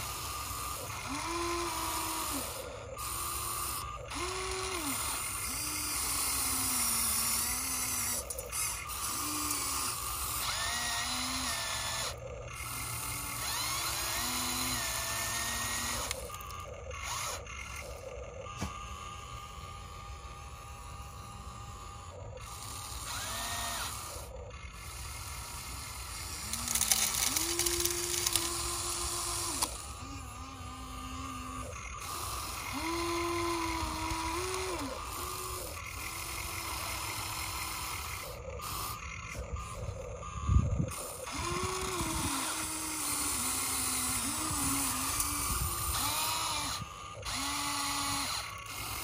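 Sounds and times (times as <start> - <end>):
electric motors whining: 0.0 - 49.0.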